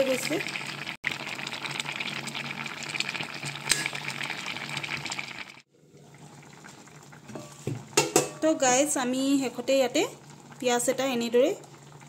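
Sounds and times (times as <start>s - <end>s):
pot boiling bubbling: 0.0s - 12.0s.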